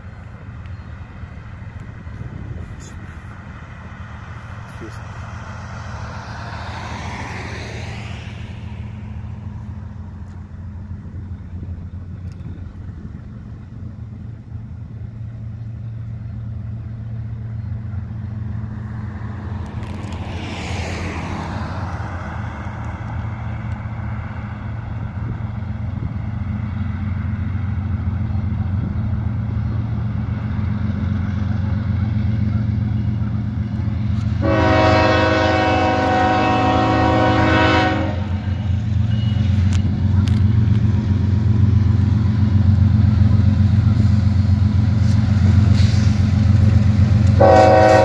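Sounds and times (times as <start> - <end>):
locomotive engine drone: 0.0 - 48.0
road vehicles passing: 0.0 - 48.0.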